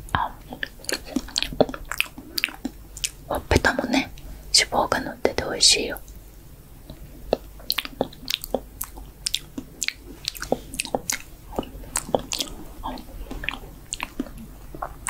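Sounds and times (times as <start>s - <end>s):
wet mouth smacking and clicks: 0.1s - 4.3s, 6.8s - 15.0s.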